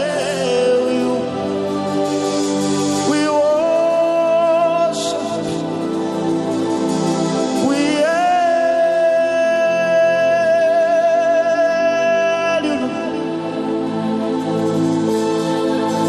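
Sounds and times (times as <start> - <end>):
sustained accompaniment chords: 0.0 - 16.0.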